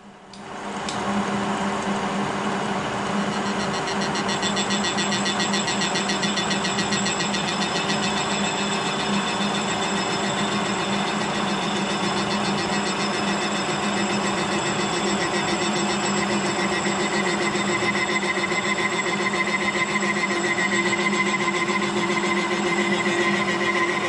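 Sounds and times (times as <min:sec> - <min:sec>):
milling machine humming: 0:00.3 - 0:24.0.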